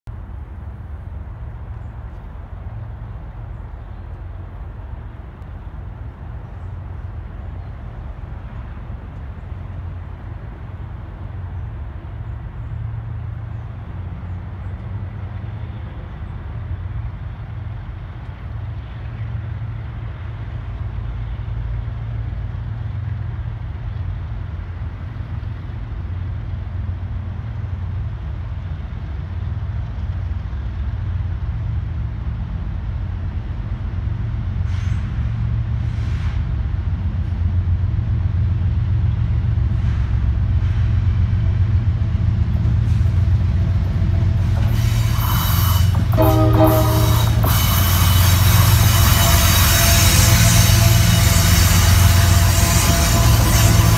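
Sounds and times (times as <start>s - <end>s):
diesel locomotive rumble: 0.0s - 53.9s.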